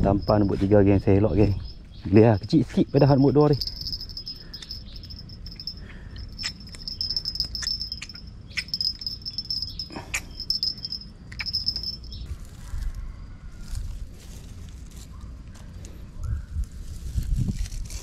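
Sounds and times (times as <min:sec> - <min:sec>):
insects chirping trill: 0:00.0 - 0:14.6.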